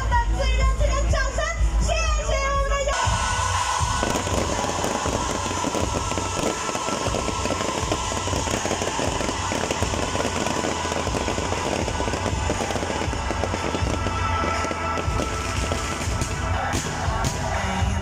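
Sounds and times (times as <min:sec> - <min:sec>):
fireworks crackling: 0:03.2 - 0:18.0.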